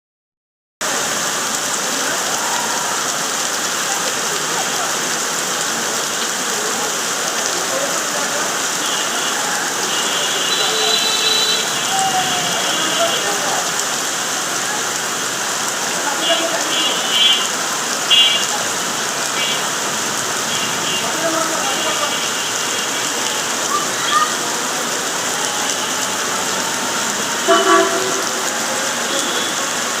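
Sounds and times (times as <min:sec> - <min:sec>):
heavy rain falling: 0:00.8 - 0:30.0.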